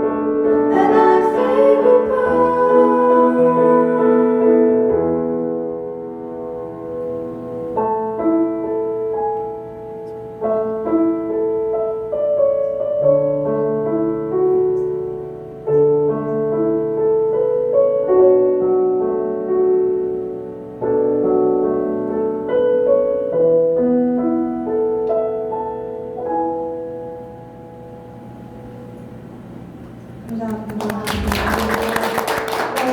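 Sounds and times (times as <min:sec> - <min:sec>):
slow gentle piano melody: 0:00.0 - 0:32.9.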